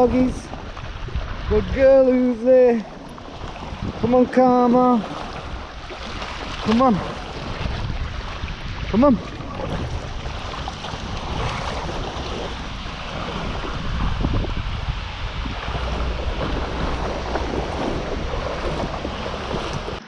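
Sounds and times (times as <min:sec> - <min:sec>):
river water splashing around legs: 0:00.0 - 0:20.0
wind buffeting microphone: 0:00.0 - 0:20.0.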